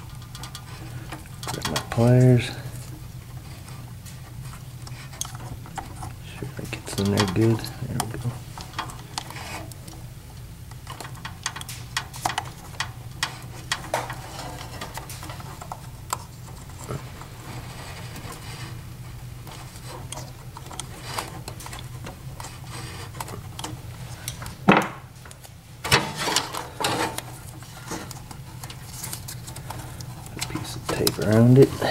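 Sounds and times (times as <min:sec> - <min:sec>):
small clicks and rustles: 0:00.0 - 0:31.9
steady low hum: 0:00.0 - 0:31.9.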